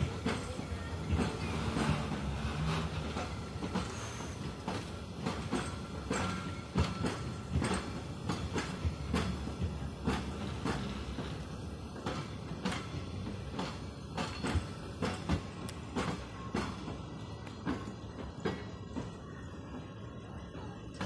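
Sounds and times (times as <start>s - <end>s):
train wheels clacking on rail joints: 0.0s - 19.8s
train rumble: 0.0s - 21.0s.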